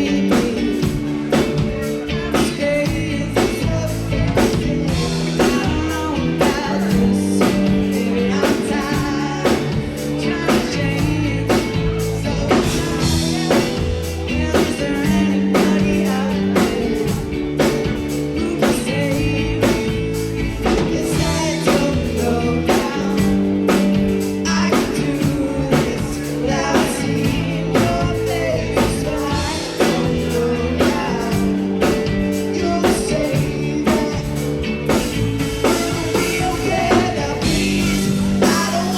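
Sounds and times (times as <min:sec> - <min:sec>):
bass guitar: 0:00.0 - 0:38.9
drum kit beat: 0:00.0 - 0:38.9
electric guitar: 0:00.0 - 0:38.9
person singing: 0:00.0 - 0:38.9.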